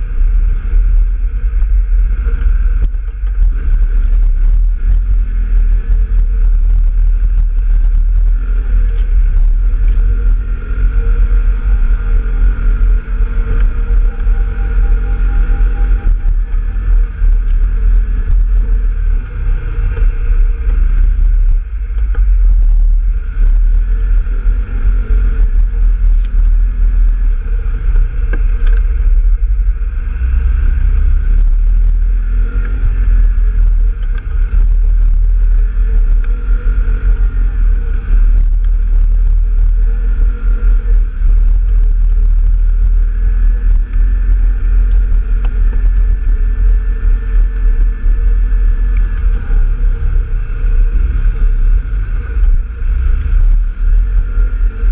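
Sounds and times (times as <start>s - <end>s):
off-road vehicle engine running: 0.0s - 54.9s
wind rumble on microphone: 0.0s - 54.9s.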